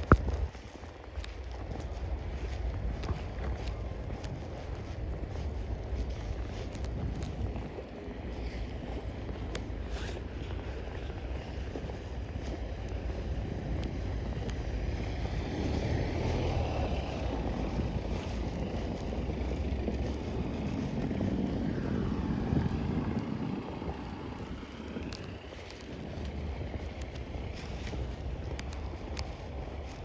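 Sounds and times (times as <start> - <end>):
vehicles passing: 0.0 - 30.0
wind rumble on microphone: 0.0 - 30.0.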